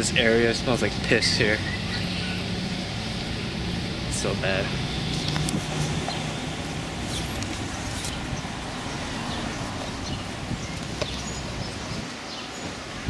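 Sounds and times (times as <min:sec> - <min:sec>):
passing car traffic: 0:00.0 - 0:13.0
wind rushing: 0:00.9 - 0:13.0.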